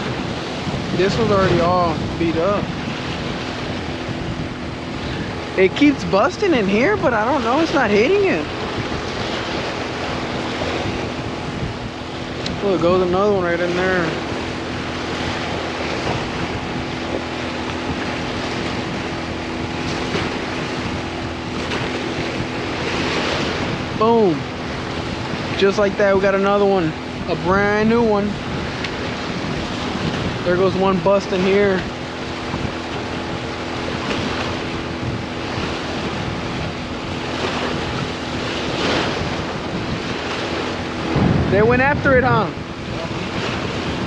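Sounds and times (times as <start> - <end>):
low two-tone motor hum: 0.0 - 44.0
water at shoreline: 0.0 - 44.0
wind: 0.0 - 44.0.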